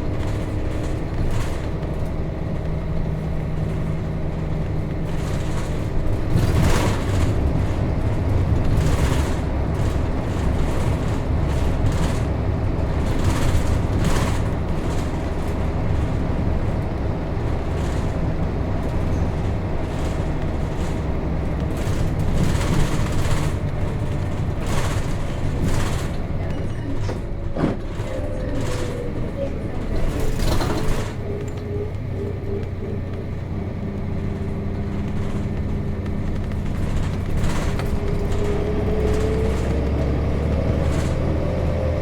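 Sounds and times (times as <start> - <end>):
bus diesel engine running: 0.0 - 42.0
bus rattling and knocking: 0.0 - 42.0.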